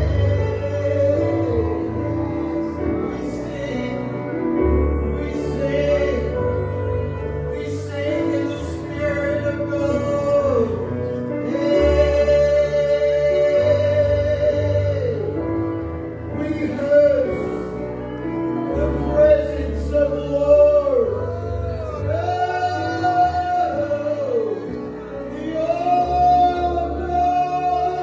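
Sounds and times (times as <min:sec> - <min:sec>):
steady bass: 0:00.0 - 0:28.0.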